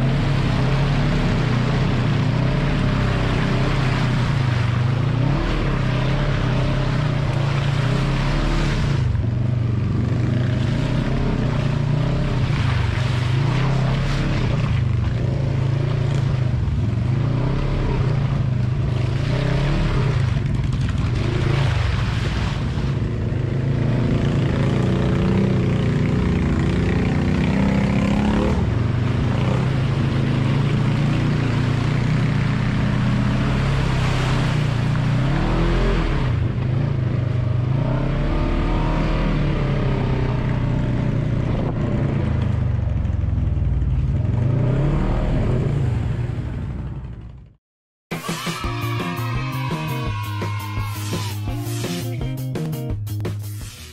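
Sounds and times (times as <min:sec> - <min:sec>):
off-road vehicle engine revving: 0:00.0 - 0:42.6, 0:43.4 - 0:47.2.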